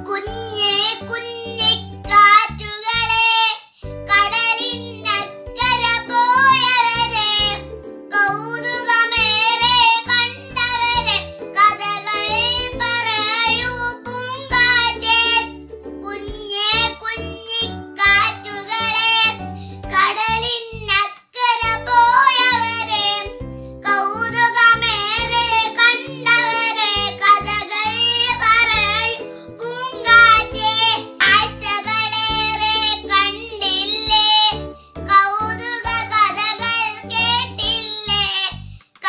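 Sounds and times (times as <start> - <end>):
girl singing: 0.0 - 38.7
instrumental backing music: 0.0 - 39.0.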